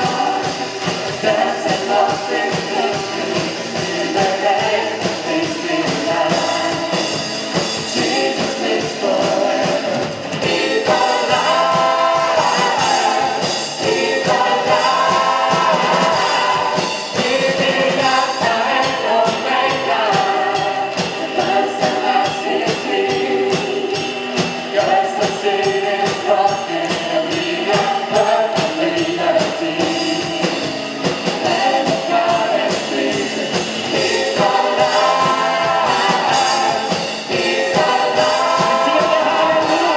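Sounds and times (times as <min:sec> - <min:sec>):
full band accompaniment: 0:00.0 - 0:39.9
praise team singing: 0:00.0 - 0:39.9.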